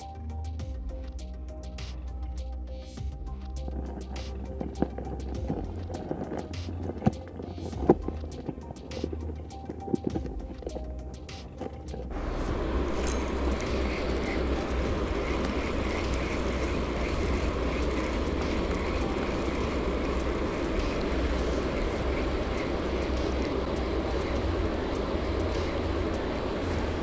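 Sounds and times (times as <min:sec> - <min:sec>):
fishing reel whirring: 0:02.9 - 0:27.0
low rumble: 0:03.1 - 0:27.0.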